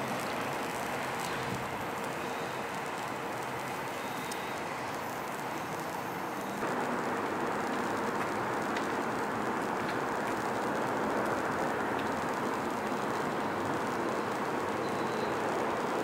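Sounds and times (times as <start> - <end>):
light rail train rumbling: 0.0 - 16.0.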